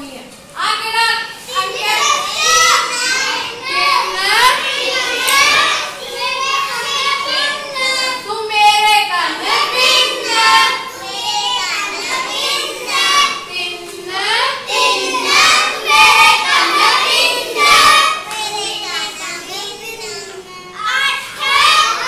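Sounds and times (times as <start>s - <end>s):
teacher singing: 1.3s - 22.0s
children singing: 1.4s - 8.3s, 9.3s - 22.0s.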